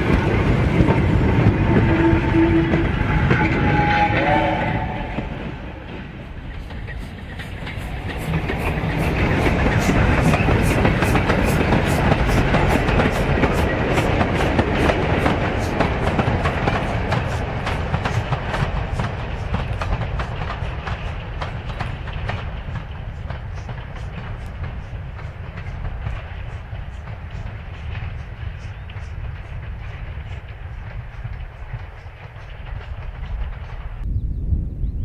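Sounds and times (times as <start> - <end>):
train wheels clicking on rail joints: 0.0 - 34.1
train rumble: 0.0 - 34.7.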